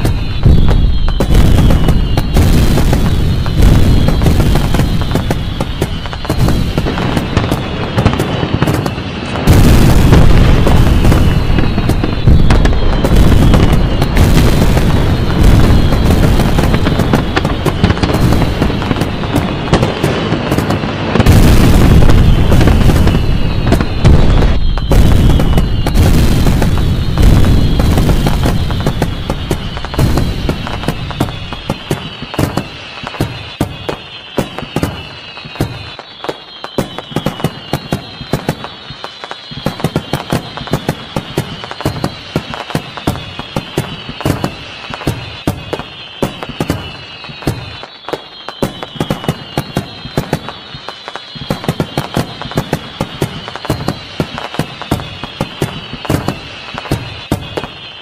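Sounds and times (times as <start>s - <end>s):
firework shells booming: 0.0s - 58.0s
fireworks crackling: 0.0s - 58.0s.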